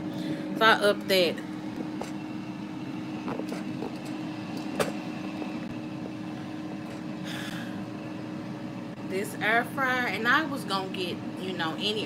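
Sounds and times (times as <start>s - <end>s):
air fryer fan humming: 0.0s - 12.0s.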